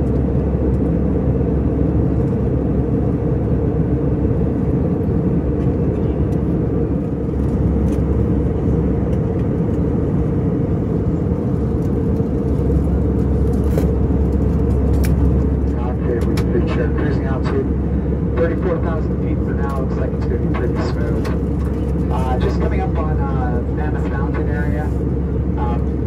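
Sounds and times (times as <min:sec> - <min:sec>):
airplane cabin drone: 0:00.0 - 0:26.0.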